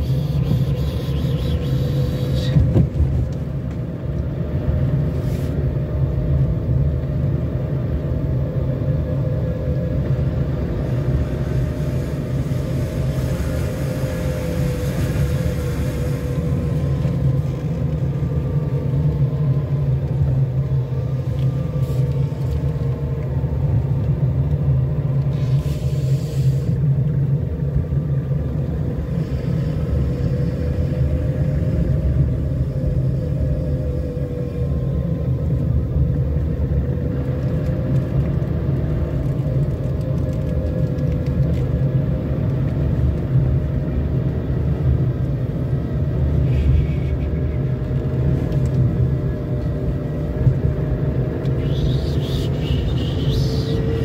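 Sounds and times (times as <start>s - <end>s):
car driving slowly: 0.0s - 54.0s.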